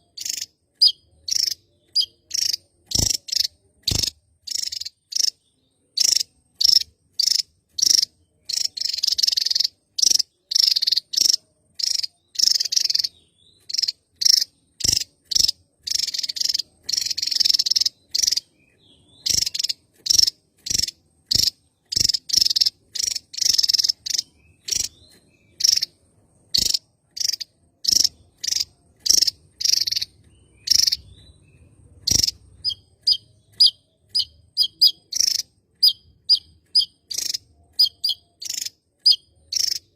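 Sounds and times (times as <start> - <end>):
bird singing high sharp notes: 0.0 - 39.9.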